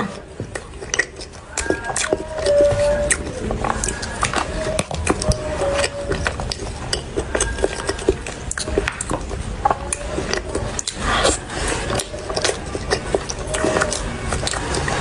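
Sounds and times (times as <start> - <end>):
wet chewing and lip smacks: 0.1 - 15.0.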